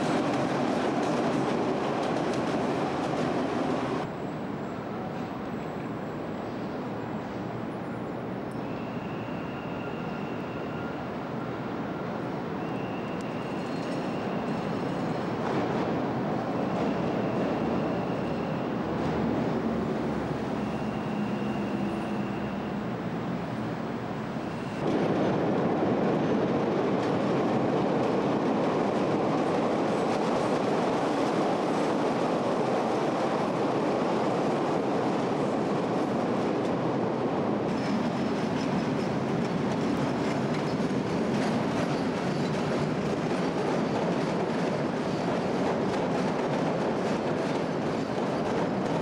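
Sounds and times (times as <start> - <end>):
train rumbling on elevated track: 0.0 - 49.0.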